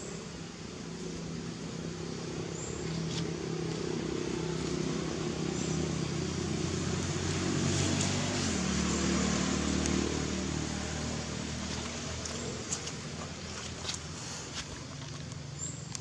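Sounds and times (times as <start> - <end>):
vehicle engine running: 0.9 - 16.0.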